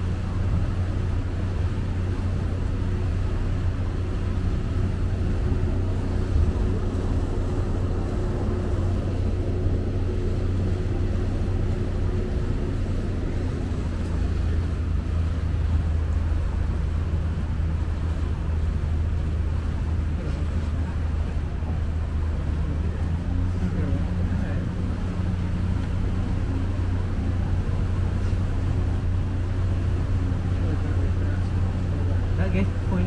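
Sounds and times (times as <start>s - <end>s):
ferry motor droning: 0.0s - 33.0s.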